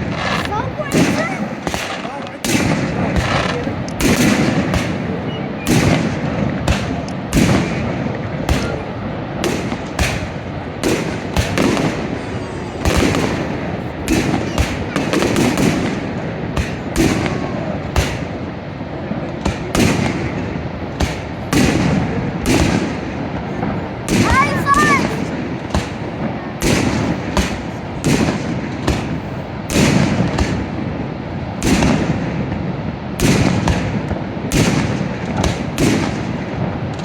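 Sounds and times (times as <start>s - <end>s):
fireworks bangs: 0.0s - 37.0s
steady rumbling haze: 0.0s - 37.0s.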